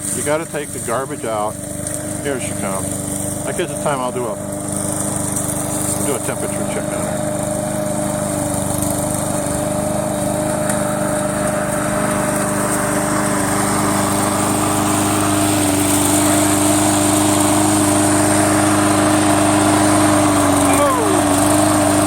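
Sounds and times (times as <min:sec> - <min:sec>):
lawn mower motor running: 0:00.0 - 0:22.0.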